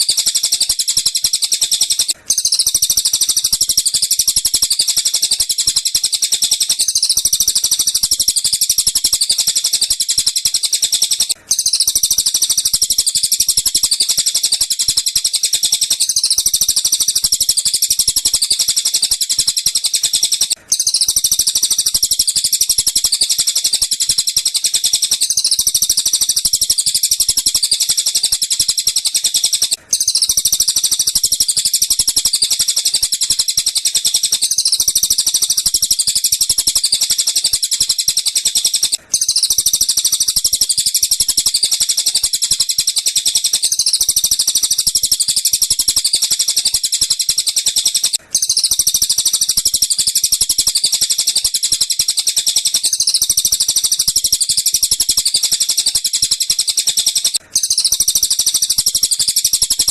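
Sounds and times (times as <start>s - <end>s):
high-pitched bird chirping: 0.0s - 59.9s.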